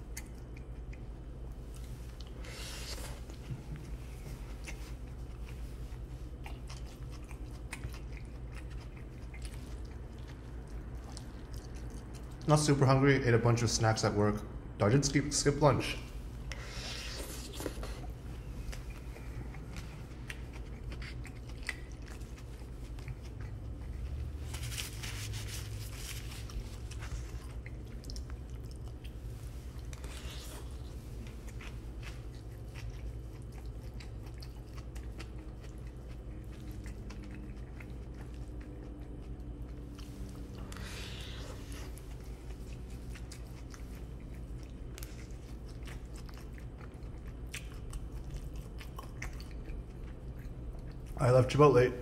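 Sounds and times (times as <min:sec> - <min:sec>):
chewing and biting food: 0:00.0 - 0:12.8, 0:16.0 - 0:51.6.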